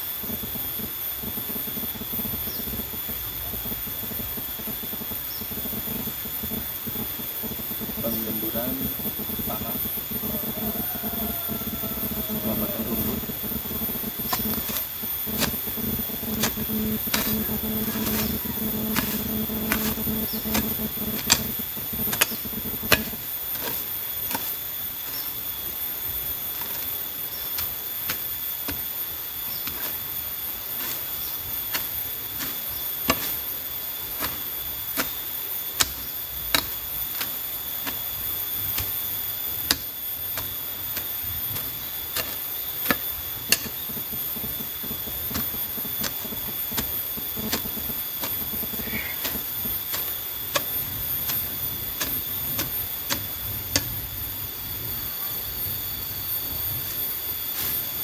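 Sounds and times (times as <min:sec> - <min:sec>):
steady high-pitched whine: 0:00.0 - 0:58.0
hand hoe chopping into soil: 0:07.9 - 0:54.1, 0:56.8 - 0:58.0.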